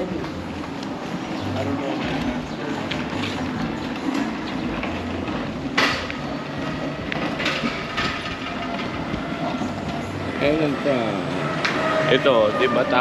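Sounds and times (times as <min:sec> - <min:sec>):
motor vehicles passing: 0:00.0 - 0:13.0.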